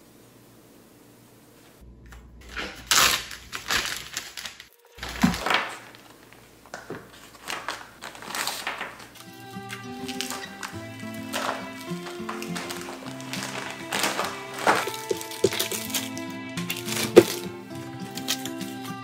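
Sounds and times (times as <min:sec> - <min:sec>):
plastic bag crinkling: 0:02.5 - 0:19.0.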